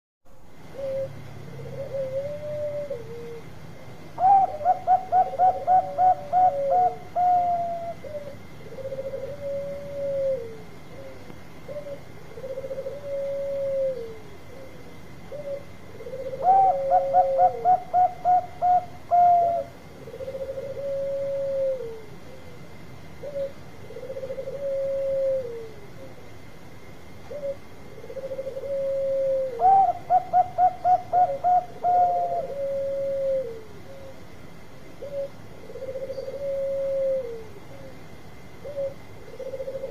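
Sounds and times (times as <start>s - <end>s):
dove soft cooing: 0.6s - 39.9s.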